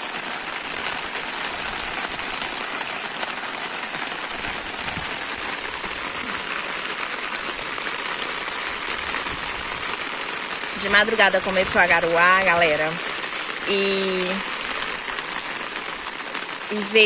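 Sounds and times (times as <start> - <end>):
heavy rain on wet ground: 0.0 - 17.0.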